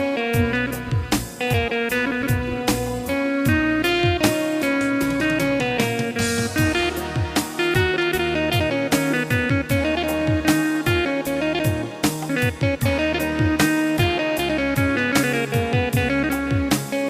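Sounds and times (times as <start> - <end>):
plucked-string melody: 0.0 - 17.0
steady drum beat: 0.0 - 17.0
sliding deep bass notes: 0.4 - 16.7.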